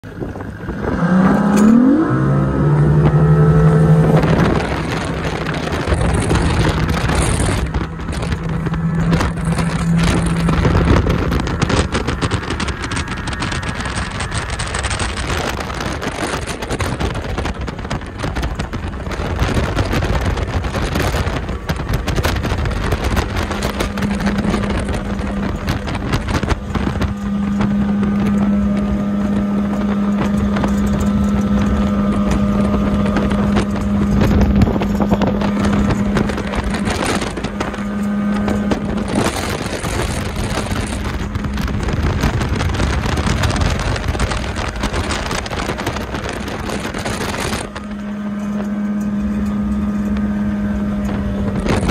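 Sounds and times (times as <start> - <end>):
outboard motor running: 0.0 - 51.9
rushing wind and water: 0.0 - 51.9.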